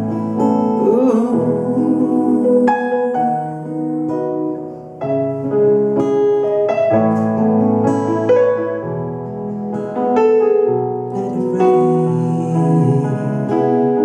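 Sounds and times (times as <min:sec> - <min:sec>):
piano playing chords and melody: 0:00.0 - 0:14.0.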